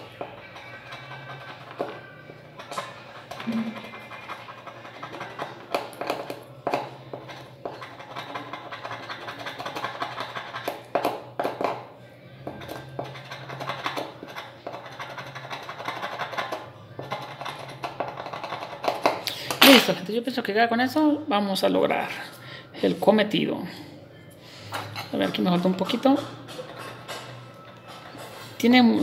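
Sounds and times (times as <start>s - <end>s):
metal spatula scratching metal: 0.0s - 11.7s, 12.4s - 19.6s, 24.5s - 29.0s
background music: 0.0s - 29.0s.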